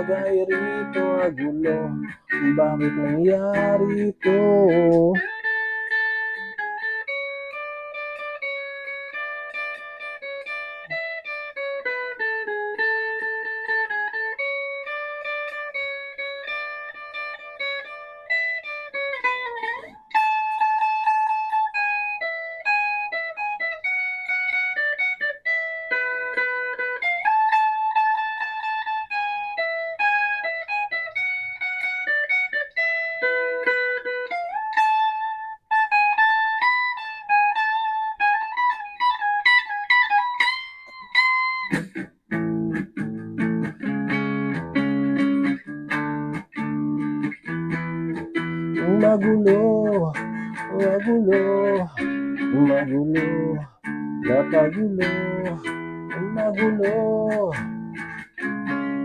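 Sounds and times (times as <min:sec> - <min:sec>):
guitar played with a pick: 0:00.0 - 0:59.0.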